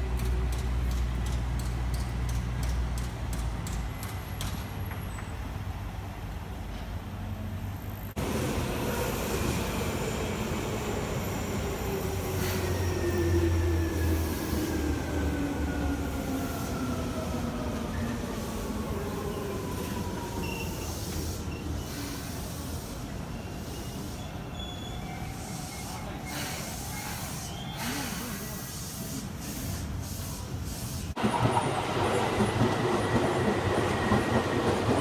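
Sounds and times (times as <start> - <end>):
train rumble: 0.0 - 24.3, 25.0 - 35.0.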